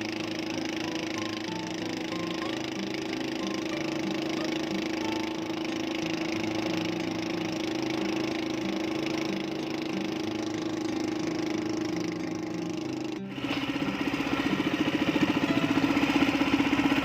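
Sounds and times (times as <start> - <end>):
boat engine running: 0.0 - 17.0
throbbing engine: 0.0 - 17.0.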